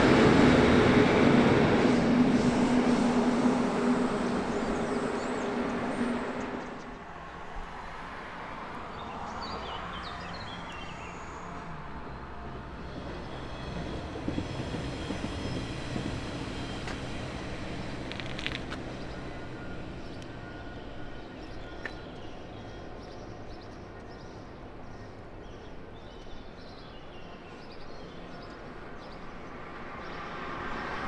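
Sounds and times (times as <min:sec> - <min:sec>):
diesel train crossing a bridge: 0:00.0 - 0:31.0
electric train hum: 0:00.0 - 0:31.0.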